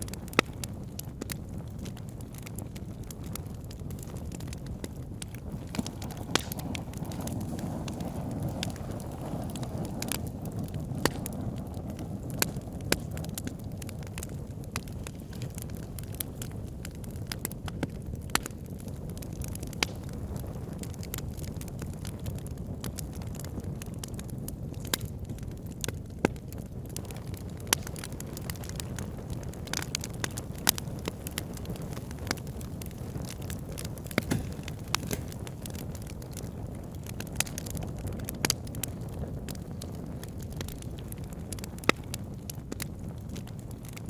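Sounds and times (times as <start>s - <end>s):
flames rushing: 0.0s - 44.0s
logs crackling and popping: 0.0s - 44.0s.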